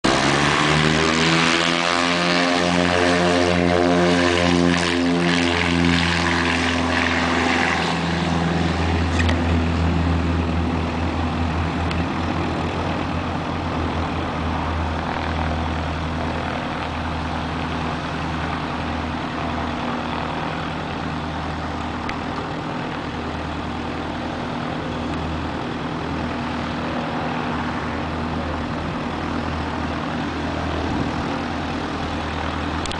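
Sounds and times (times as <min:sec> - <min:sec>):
airplane engines droning: 0:00.0 - 0:32.9.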